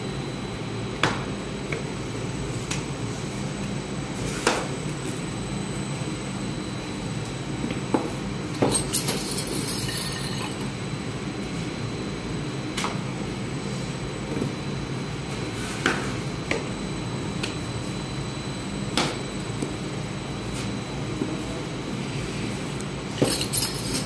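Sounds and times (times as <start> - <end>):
bakery machinery running: 0.0 - 24.0.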